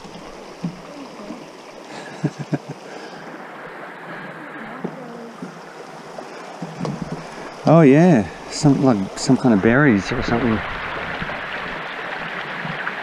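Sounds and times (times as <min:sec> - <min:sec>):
creek running over rocks: 0:00.0 - 0:13.0.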